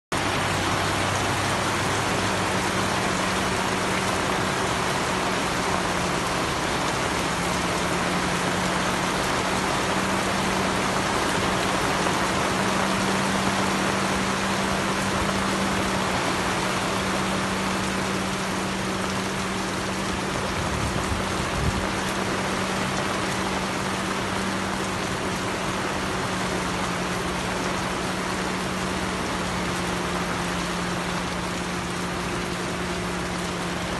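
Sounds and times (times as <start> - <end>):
heavy rain on boat and water: 0.1 - 33.9.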